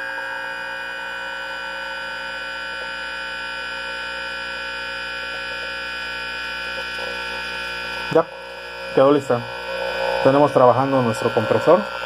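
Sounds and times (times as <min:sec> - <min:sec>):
compressor buzzing with high whine: 0:00.0 - 0:12.0.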